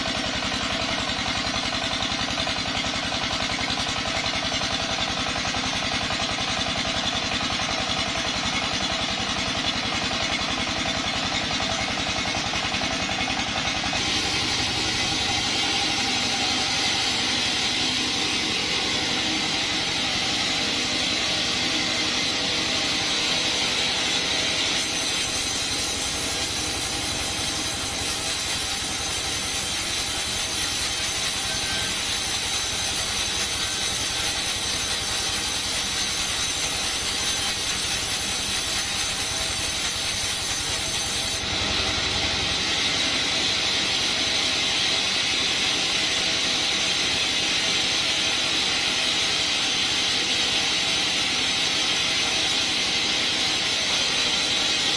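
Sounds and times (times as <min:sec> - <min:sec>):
bandsaw sawing wood: 0:06.8 - 0:54.9.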